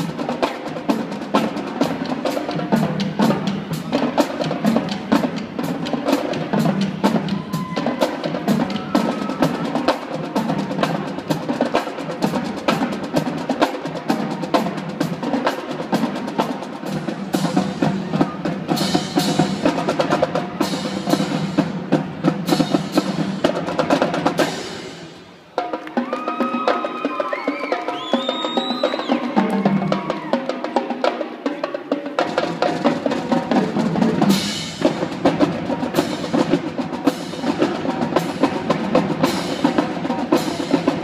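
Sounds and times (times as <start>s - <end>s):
drum line playing fast: 0.0s - 41.0s.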